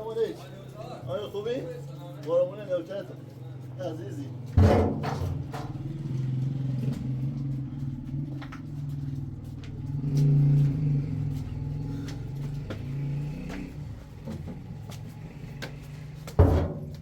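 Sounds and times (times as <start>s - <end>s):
engine running: 3.4s - 17.0s.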